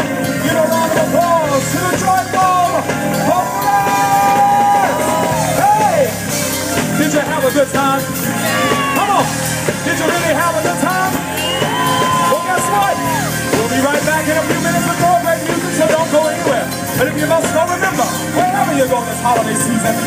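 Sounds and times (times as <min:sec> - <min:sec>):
drum kit: 0:00.0 - 0:20.0
keyboard: 0:00.0 - 0:20.0.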